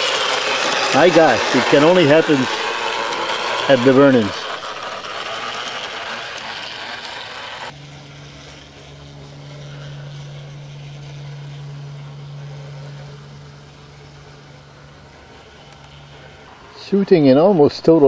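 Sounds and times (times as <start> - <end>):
model streetcar rattling: 0.0 - 18.0
steady low hum: 0.0 - 18.0.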